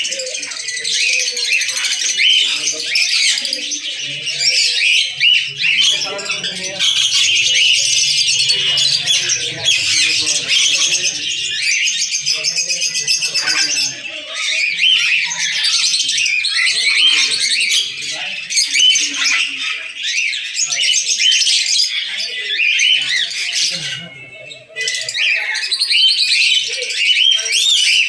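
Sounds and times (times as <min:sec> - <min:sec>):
caged birds chirping and squawking: 0:00.0 - 0:28.0
people talking: 0:00.0 - 0:28.0.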